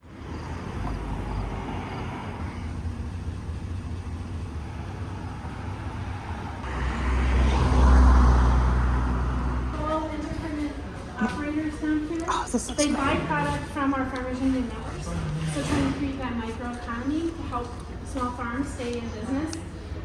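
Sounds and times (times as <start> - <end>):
vehicle passing: 0.0 - 17.2
road traffic rumble: 0.0 - 20.0.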